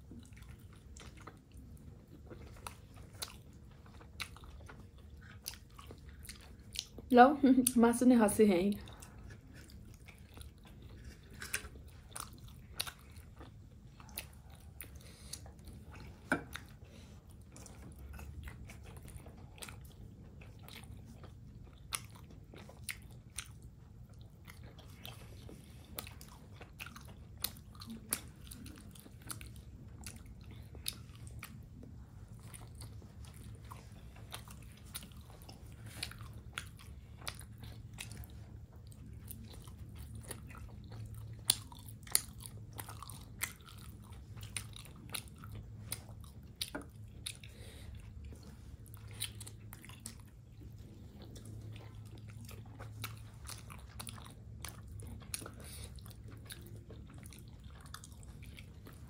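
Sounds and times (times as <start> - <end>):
chewing and biting food: 0.0 - 59.0
low steady hum: 0.0 - 59.0.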